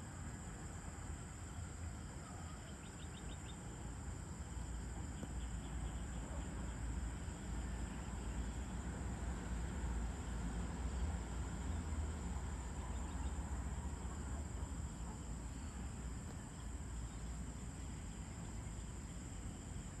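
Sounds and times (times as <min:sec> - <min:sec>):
insects trilling: 0:00.2 - 0:20.0.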